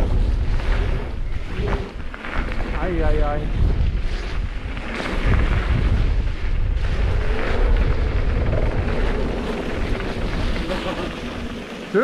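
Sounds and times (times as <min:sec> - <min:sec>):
wind buffeting on microphone: 0:00.0 - 0:11.7.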